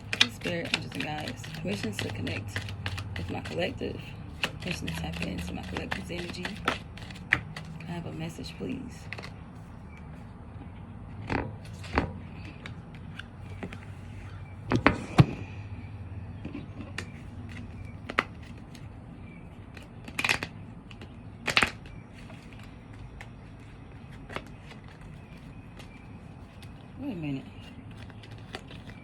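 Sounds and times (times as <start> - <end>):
cards being shuffled by hand: 0.0 - 10.3, 11.6 - 15.0, 16.5 - 18.9, 19.6 - 29.0.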